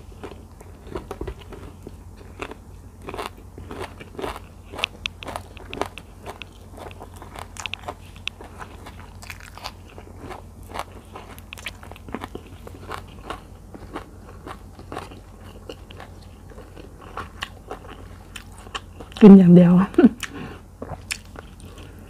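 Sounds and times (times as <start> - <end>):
mouth chewing sticky food: 0.0 - 19.3, 20.1 - 22.0.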